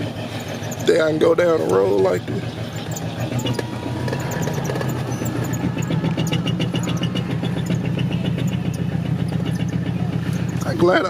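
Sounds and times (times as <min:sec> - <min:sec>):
pickup truck engine running: 0:00.0 - 0:11.0
light rapid ticking: 0:00.2 - 0:11.0.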